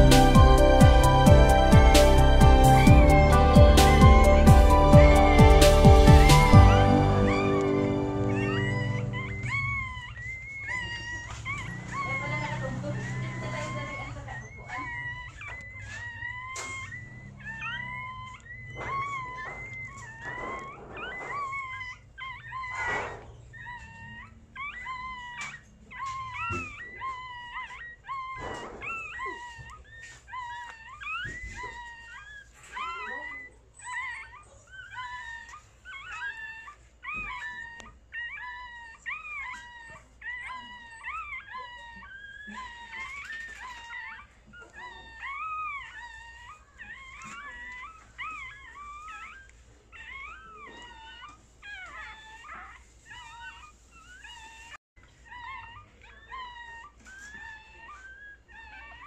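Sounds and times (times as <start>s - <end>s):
puppy squeaky crying: 0.0s - 59.0s
rustles: 8.3s - 59.0s.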